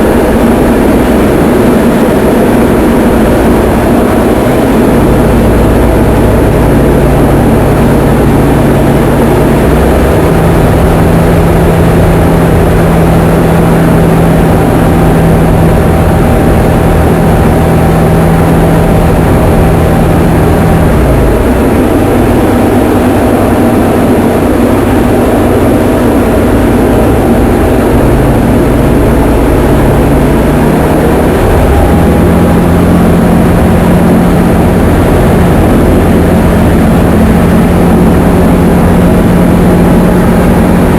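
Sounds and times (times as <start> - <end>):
aircraft piston engine and propeller: 0.0 - 40.9.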